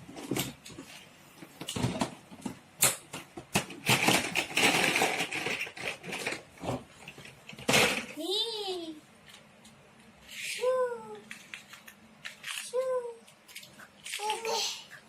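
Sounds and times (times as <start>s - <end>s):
plastic toys clicking and clattering: 0.1s - 8.2s, 9.2s - 15.0s.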